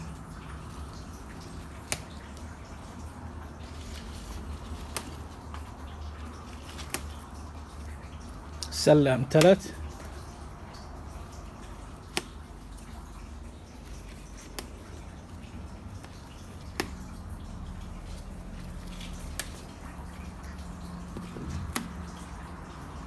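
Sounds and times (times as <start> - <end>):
water dripping: 0.0 - 23.0.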